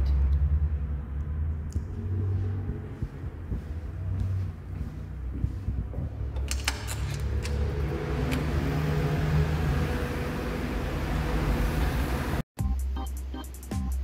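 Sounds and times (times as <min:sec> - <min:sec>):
faint engine hum: 0:00.0 - 0:12.4
street traffic rumble: 0:00.0 - 0:12.5.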